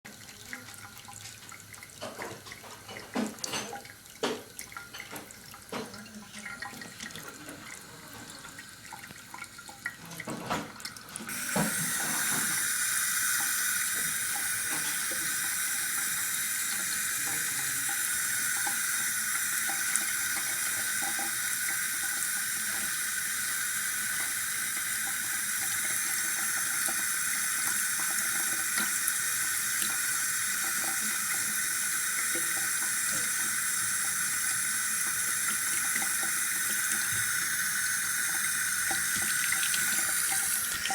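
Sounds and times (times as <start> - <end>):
water running from faucet: 0.1 - 40.9.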